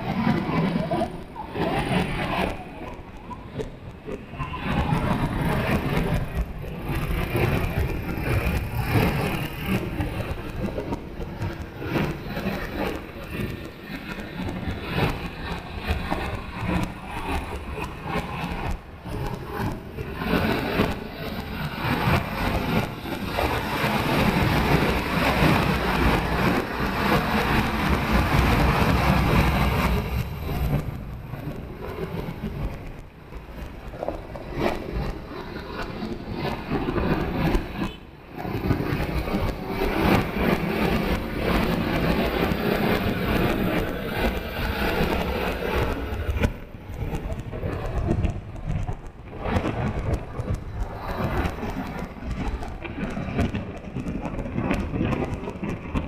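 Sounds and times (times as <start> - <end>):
road noise: 0.0 - 56.0
rushing wind on microphone: 0.0 - 56.0.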